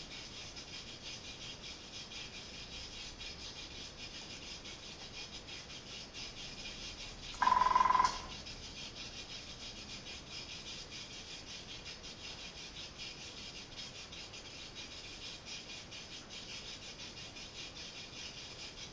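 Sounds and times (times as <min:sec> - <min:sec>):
pulsing high-pitched hiss: 0:00.0 - 0:18.9.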